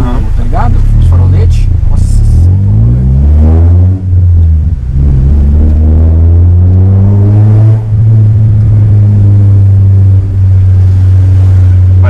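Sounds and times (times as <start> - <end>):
car engine and exhaust accelerating: 0.0 - 12.0.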